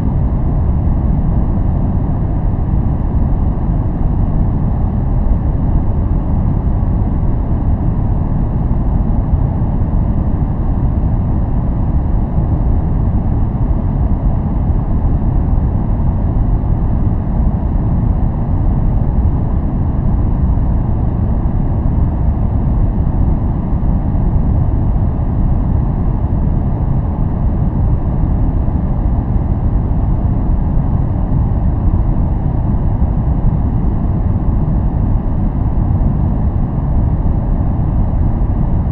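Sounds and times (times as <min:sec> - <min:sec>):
deep white noise rush: 0:00.0 - 0:38.9.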